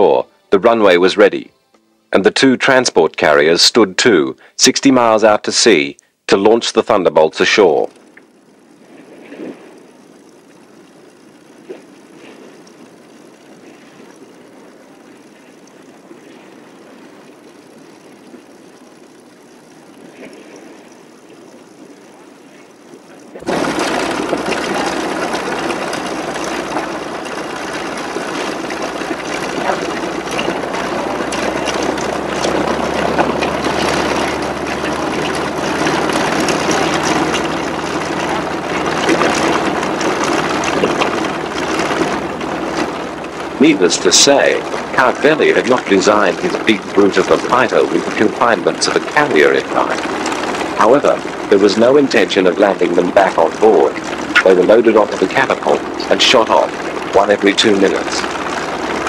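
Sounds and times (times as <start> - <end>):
aircraft engine running: 0.0 - 59.0.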